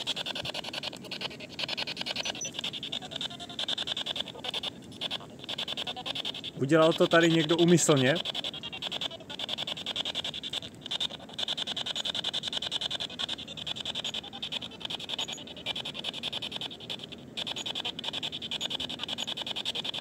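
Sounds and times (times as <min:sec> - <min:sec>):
clipped broadcast fragments: 0:00.0 - 0:20.0
radio static chopping: 0:00.0 - 0:20.0.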